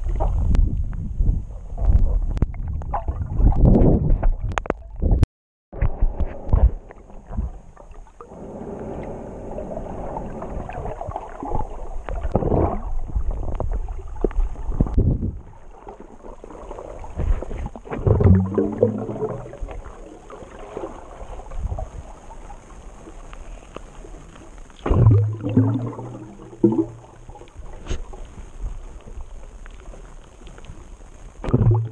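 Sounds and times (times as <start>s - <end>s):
water sloshing and gurgling: 1.5s - 5.2s, 5.8s - 31.9s.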